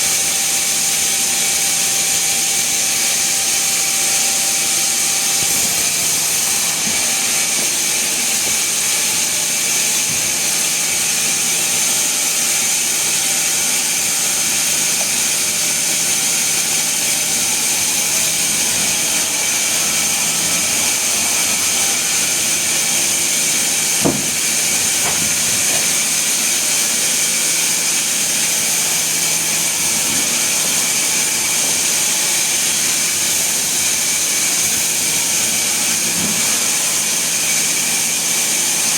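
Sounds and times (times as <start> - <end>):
sawmill machinery hiss: 0.0 - 38.9.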